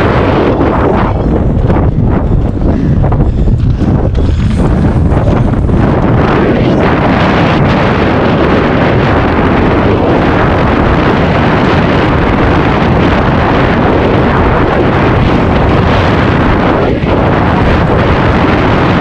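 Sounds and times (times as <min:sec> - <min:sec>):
loud wind buffeting microphone: 0:00.0 - 0:19.0.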